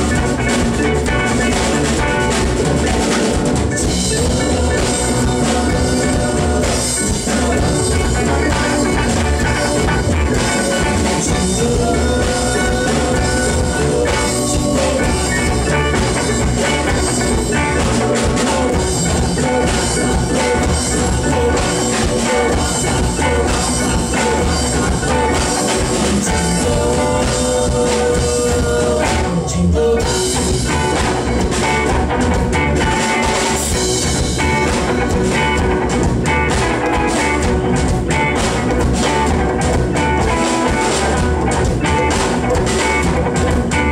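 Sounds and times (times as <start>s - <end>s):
drum kit: 0.0s - 43.9s
guitar: 0.0s - 43.9s.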